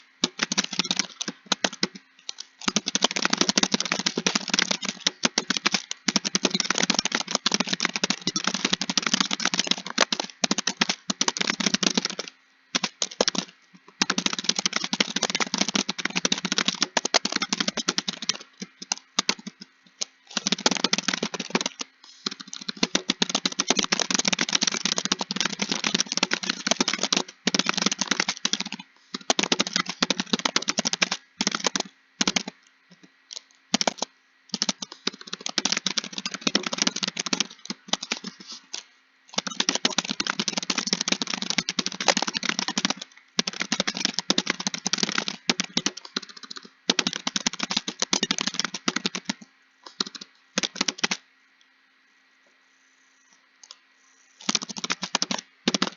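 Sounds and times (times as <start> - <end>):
fast typing on keyboard: 0.0 - 51.2, 54.4 - 55.9.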